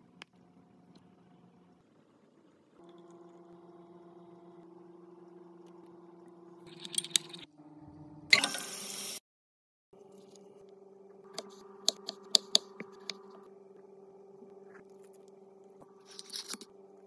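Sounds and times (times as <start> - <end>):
steady low hum: 0.0 - 8.3, 10.0 - 17.0.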